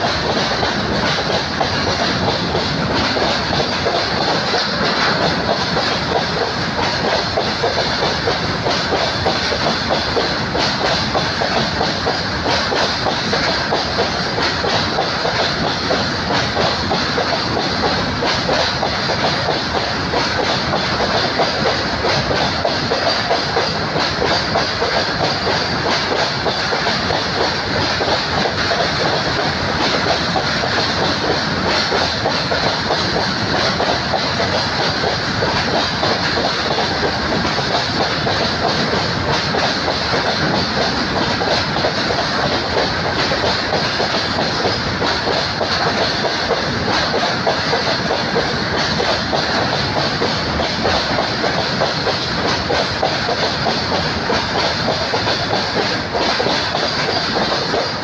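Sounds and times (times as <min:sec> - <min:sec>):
train coaches rolling past: 0:00.0 - 0:58.0
wheels clacking over rail joints: 0:00.0 - 0:58.0.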